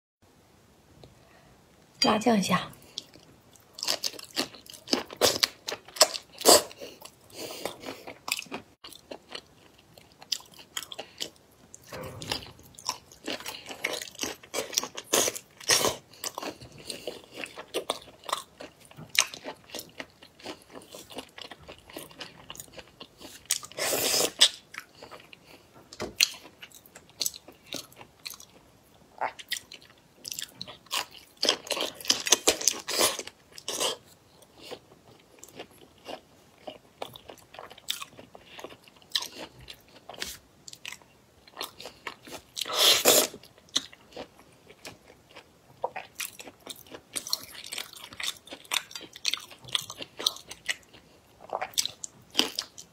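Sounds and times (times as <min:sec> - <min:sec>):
crunching and chewing: 0:02.9 - 0:52.9.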